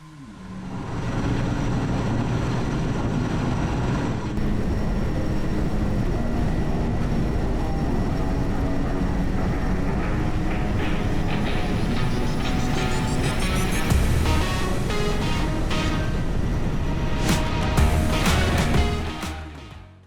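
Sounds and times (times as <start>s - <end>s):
turbine whine: 0.0s - 19.4s
helicopter rotor rumble: 0.8s - 19.1s.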